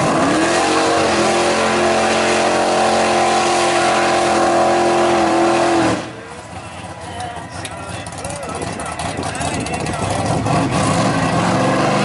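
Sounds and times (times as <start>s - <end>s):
race engine at high revs: 0.0s - 6.4s, 7.6s - 12.0s
tires churning through mud: 0.0s - 12.0s.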